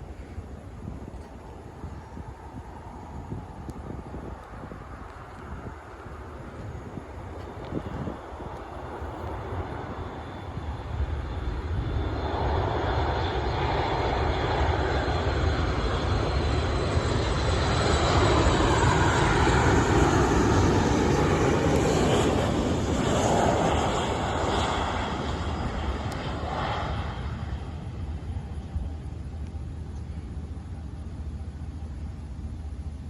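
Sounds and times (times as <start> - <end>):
faint high whine: 0.0 - 33.0
jet engine rush: 0.0 - 33.0.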